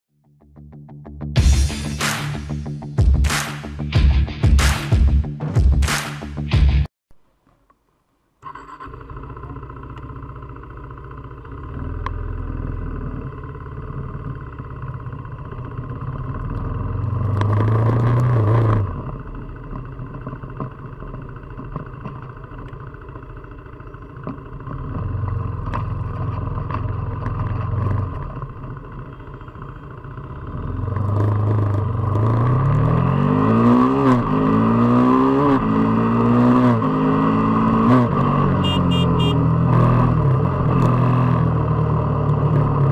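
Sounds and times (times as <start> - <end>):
motorcycle engine revving and accelerating: 8.5 - 42.9.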